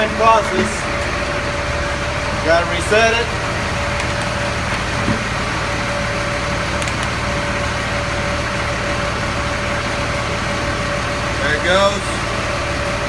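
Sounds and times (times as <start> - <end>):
steady whine: 0.0 - 13.0
truck engine idling: 0.0 - 13.0.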